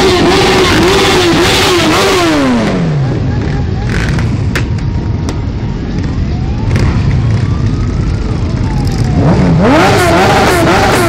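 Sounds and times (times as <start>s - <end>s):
motorcycle engines rumbling: 0.0s - 11.0s
motorcycle revving: 0.0s - 11.0s.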